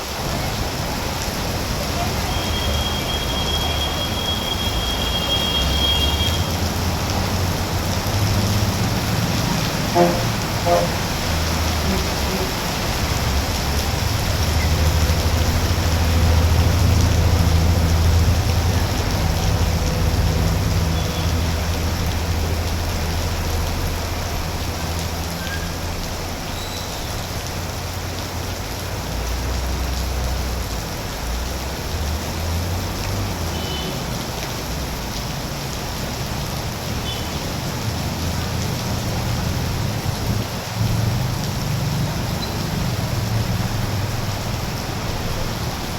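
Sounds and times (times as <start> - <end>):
heavy rain falling: 0.0 - 45.9
road traffic rumble: 0.0 - 45.9.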